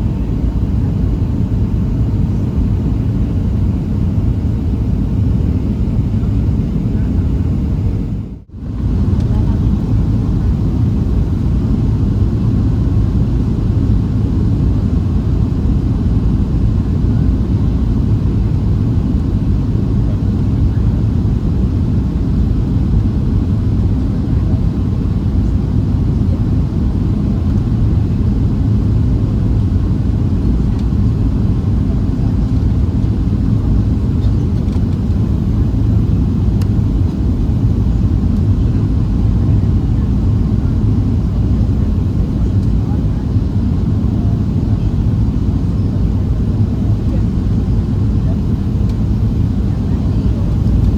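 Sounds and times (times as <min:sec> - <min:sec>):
jet engines low rumble: 0:00.0 - 0:50.9.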